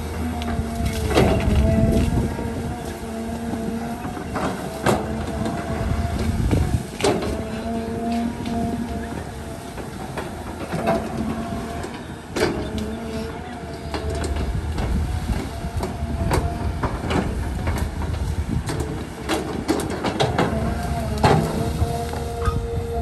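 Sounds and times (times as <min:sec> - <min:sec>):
excavator diesel engine working: 0:00.0 - 0:23.0
hydraulic whine: 0:00.0 - 0:23.0.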